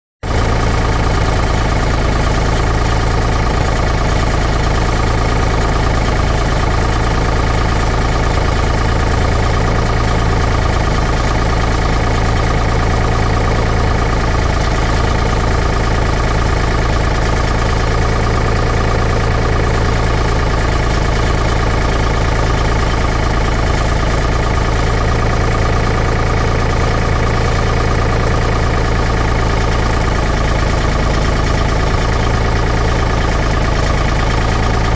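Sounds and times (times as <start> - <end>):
diesel pump engine droning: 0.2 - 34.9.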